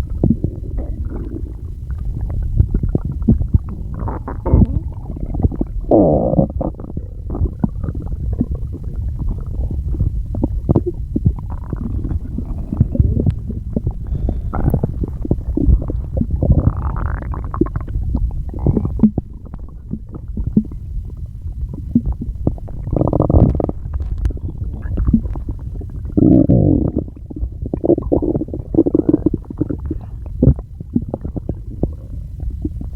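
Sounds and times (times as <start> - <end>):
stomach gurgling and growling: 0.0 - 32.9.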